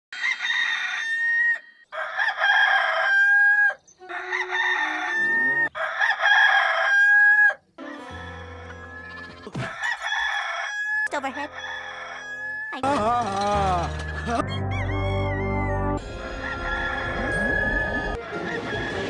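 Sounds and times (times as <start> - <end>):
rooster crowing: 0.1 - 12.8, 14.7 - 19.0.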